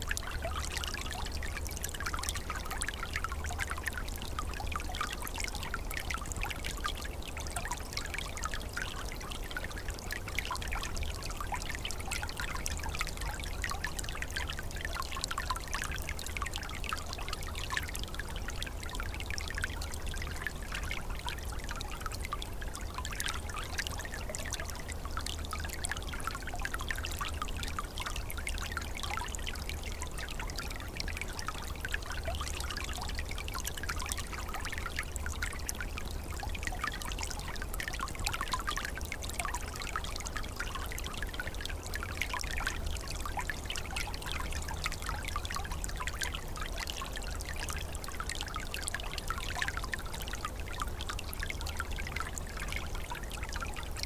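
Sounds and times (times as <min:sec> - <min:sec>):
stream trickling and gurgling: 0:00.0 - 0:54.0.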